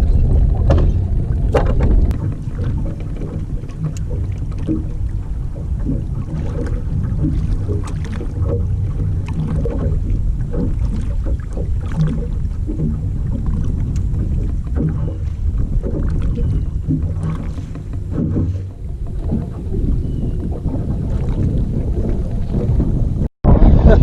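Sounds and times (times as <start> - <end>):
water lapping against kayak: 0.0 - 24.0
wind rumble on microphone: 0.0 - 24.0.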